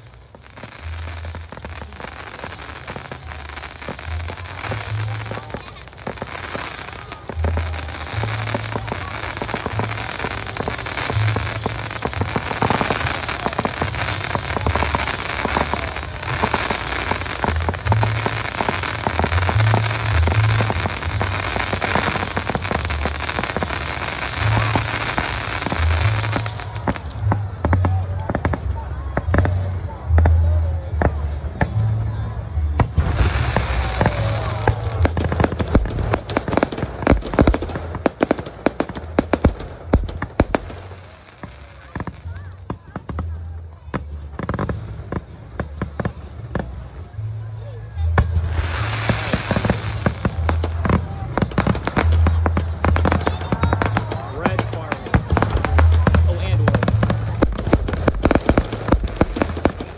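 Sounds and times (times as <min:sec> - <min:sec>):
fireworks cracking and popping: 0:00.0 - 0:59.9.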